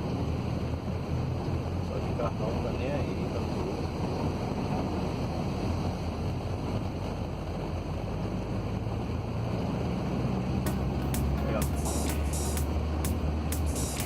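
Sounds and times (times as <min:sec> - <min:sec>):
vehicle rumble and hiss: 0:00.0 - 0:14.0.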